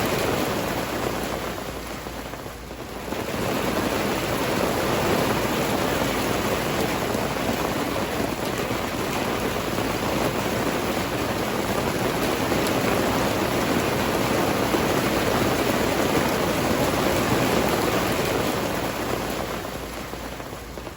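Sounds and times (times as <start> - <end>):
steady rain patter: 0.0 - 20.9.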